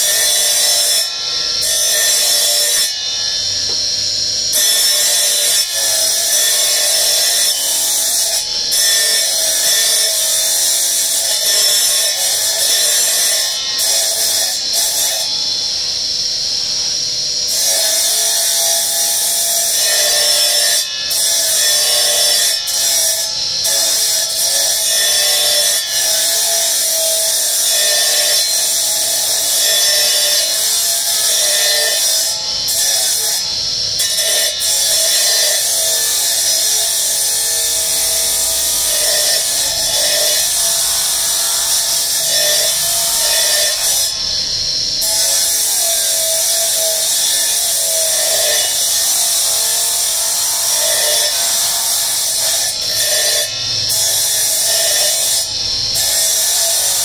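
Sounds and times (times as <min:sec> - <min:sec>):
circular saw cutting marble: 0:00.0 - 0:57.0.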